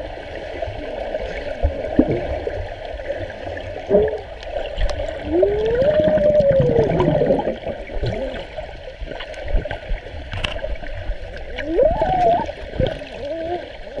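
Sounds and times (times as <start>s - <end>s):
underwater bubbling and gurgling: 0.0s - 14.0s.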